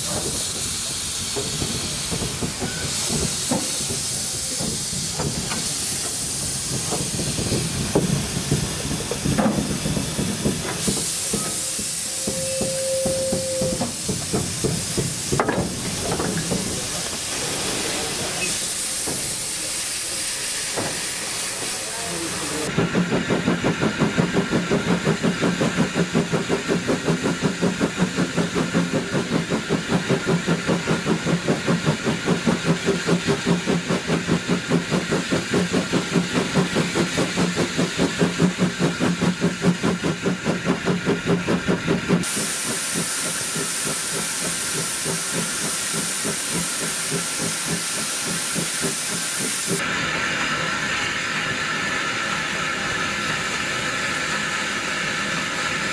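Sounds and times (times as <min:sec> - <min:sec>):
steam hissing: 0:00.0 - 0:55.9
steam locomotive chuffing: 0:00.0 - 0:55.9.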